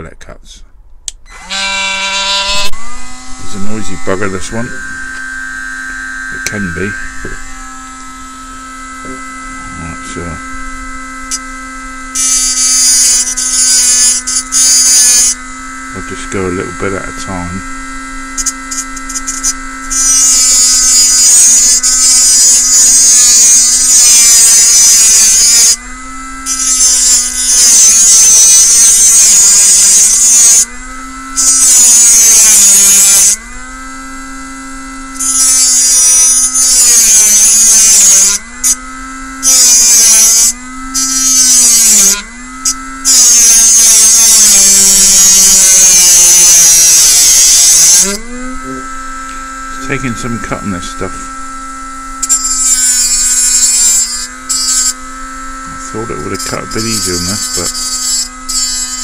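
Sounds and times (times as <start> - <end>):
rotary tool motor whine: 1.2 - 59.0
cutting disc grinding hiss: 1.3 - 59.0.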